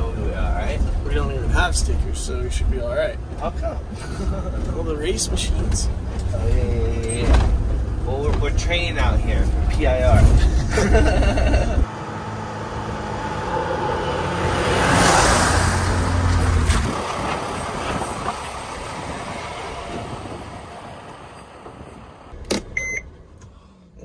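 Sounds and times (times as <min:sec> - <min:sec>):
van driving on dirt road: 0:00.0 - 0:24.0.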